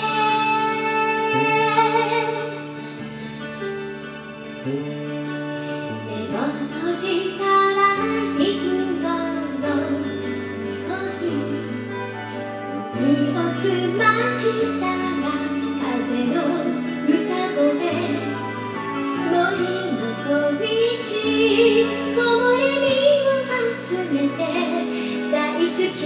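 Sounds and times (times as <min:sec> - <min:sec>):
woman singing: 0:00.0 - 0:03.0, 0:06.1 - 0:26.0
pop ballad backing track: 0:00.0 - 0:26.0.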